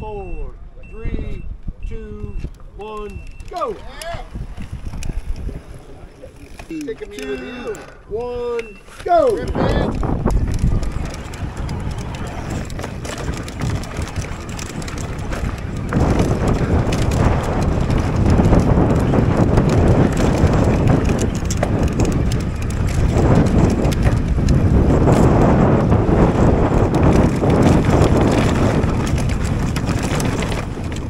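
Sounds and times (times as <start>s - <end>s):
wind buffeting microphone: 0.0s - 31.0s
tyres running over dirt: 2.5s - 31.0s
bike rattling over bumps: 3.3s - 31.0s.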